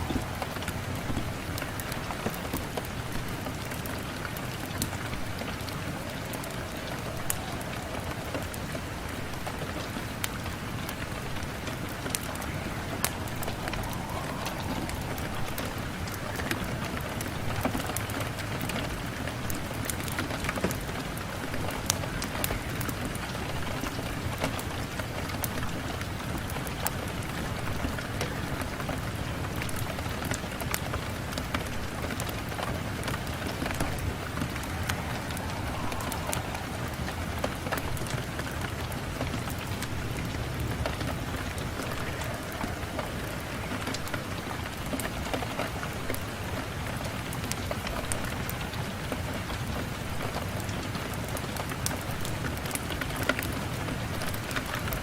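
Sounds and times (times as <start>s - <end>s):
rain on a window: 0.0s - 55.0s.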